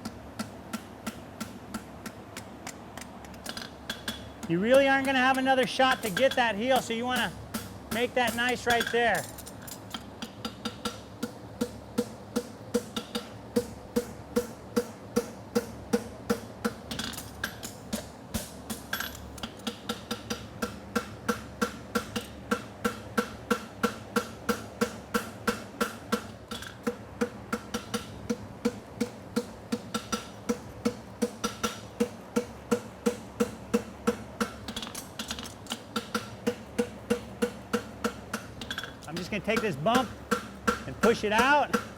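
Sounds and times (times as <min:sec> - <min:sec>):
hammer striking horseshoe on anvil: 0:03.4 - 0:41.9.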